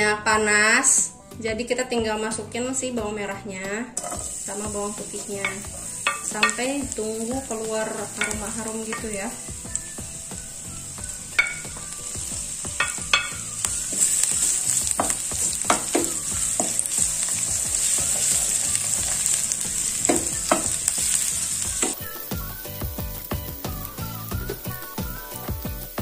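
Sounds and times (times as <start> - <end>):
food sizzling in hot oil: 4.0 - 26.0.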